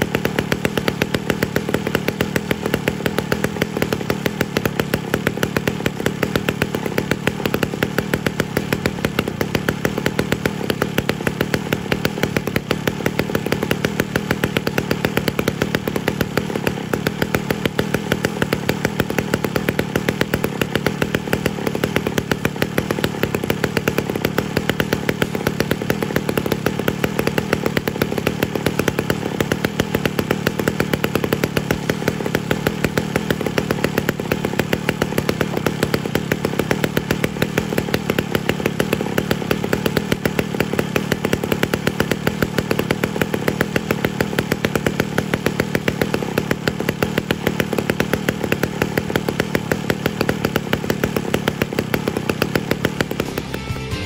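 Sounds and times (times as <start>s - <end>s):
chainsaw idling: 0.0s - 54.0s.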